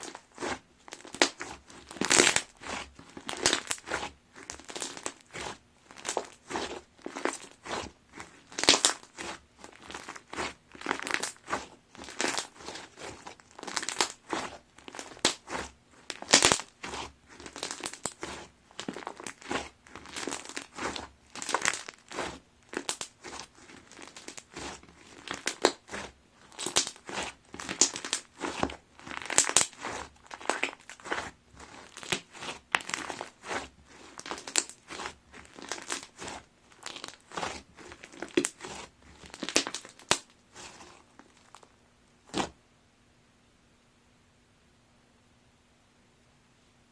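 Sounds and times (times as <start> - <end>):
slime crust crunching: 0.0 - 42.6.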